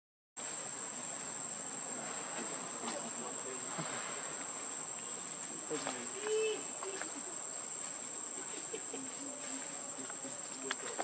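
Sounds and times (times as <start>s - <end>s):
insects trilling: 0.4s - 11.0s.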